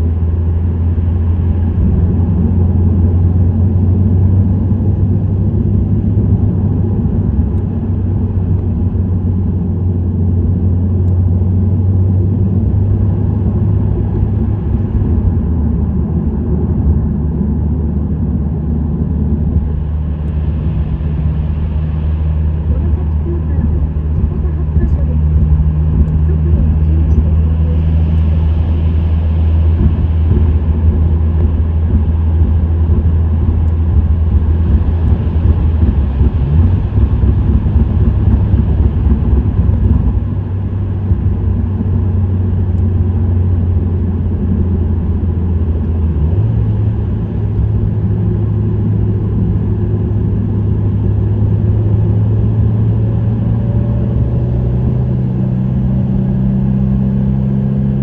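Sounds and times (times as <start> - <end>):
car engine cruising: 0.0 - 58.0
road noise: 0.0 - 58.0.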